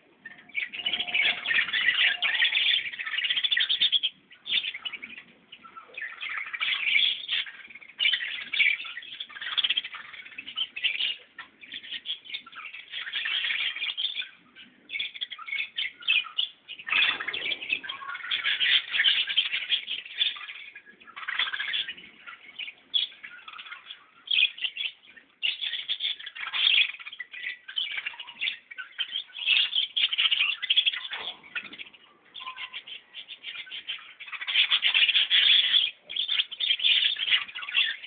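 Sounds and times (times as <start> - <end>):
small birds chirping and twittering: 0.0 - 38.0.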